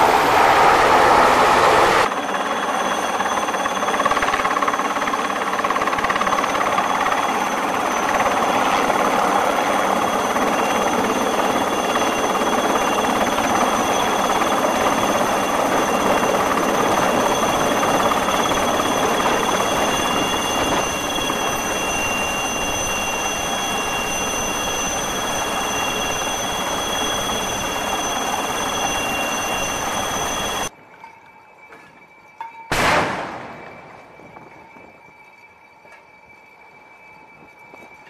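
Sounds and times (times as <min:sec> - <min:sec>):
helicopter rotor: 0:00.0 - 0:30.7
high turbine whine: 0:00.0 - 0:30.8.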